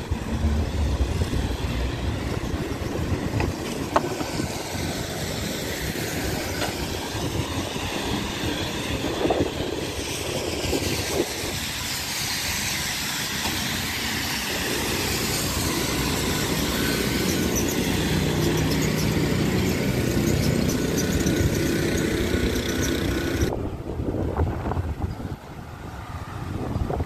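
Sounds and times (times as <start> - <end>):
snowblower engine running: 0.0 - 23.6.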